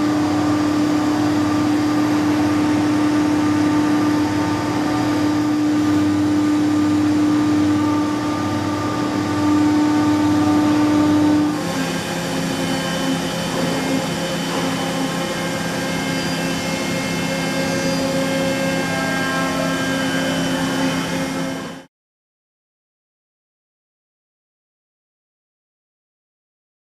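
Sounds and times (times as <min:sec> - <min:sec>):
machining centre humming and whining: 0:00.0 - 0:21.9.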